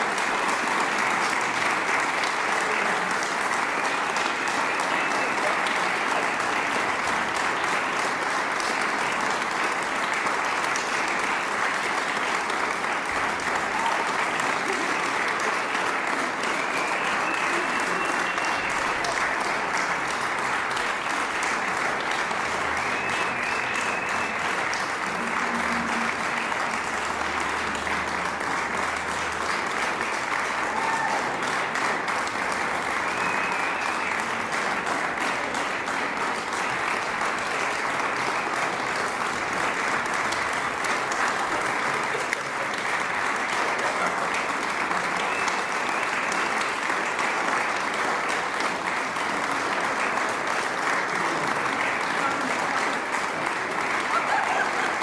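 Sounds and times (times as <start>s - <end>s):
audience applauding: 0.0s - 55.0s.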